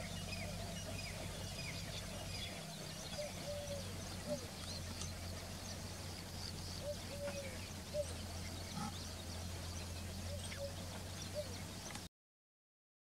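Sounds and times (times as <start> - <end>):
low bird calls: 0.0 - 12.1
steady low hum: 0.0 - 12.1.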